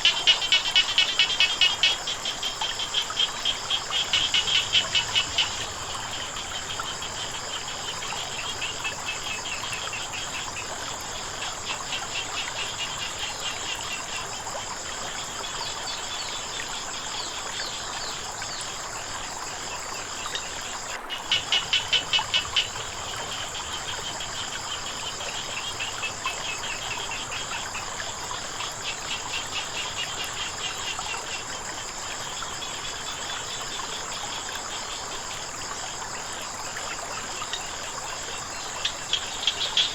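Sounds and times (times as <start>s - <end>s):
crickets trilling: 0.0s - 39.9s
faint flowing water: 0.0s - 39.9s
frogs calling: 0.0s - 39.9s.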